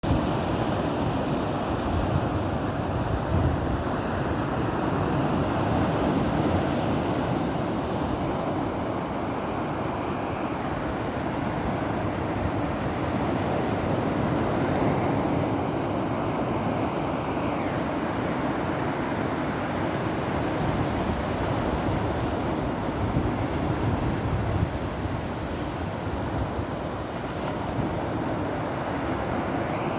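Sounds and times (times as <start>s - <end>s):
wind buffeting microphone: 0.0s - 16.9s, 19.8s - 29.6s
waves breaking: 0.0s - 29.9s.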